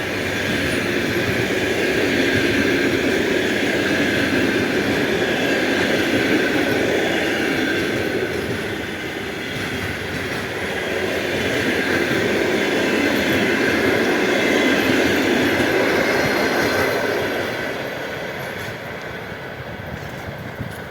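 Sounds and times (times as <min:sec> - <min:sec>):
steam train rolling past: 0:00.0 - 0:20.9.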